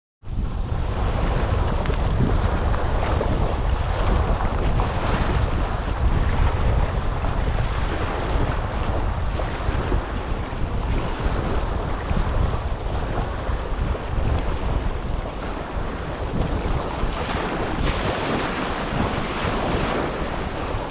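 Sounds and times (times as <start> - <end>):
wind buffeting microphone: 0.2 - 20.9
small waves lapping: 0.9 - 20.9.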